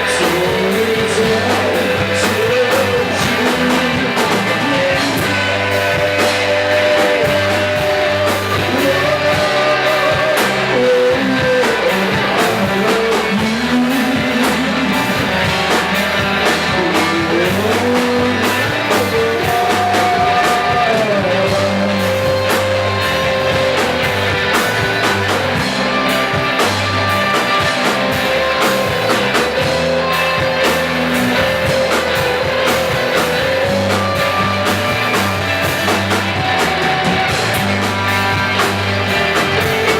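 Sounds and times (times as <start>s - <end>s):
rock song with vocals: 0.0s - 39.9s.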